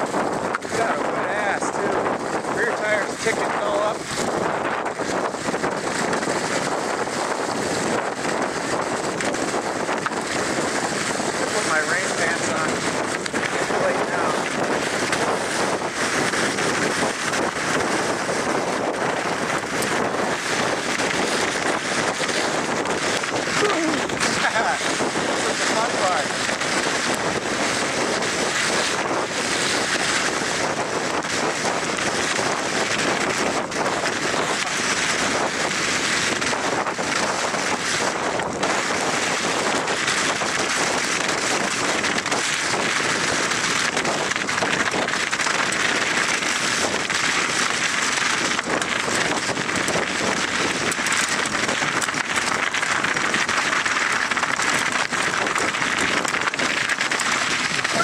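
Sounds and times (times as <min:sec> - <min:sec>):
bike tyres churning through slush: 0:00.0 - 0:58.0
wind on microphone: 0:00.0 - 0:58.0.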